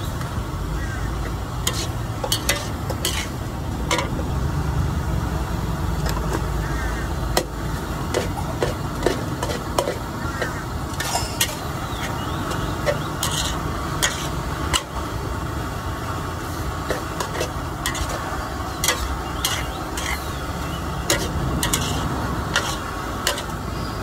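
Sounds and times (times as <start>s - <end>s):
food sizzling: 0.0s - 24.0s.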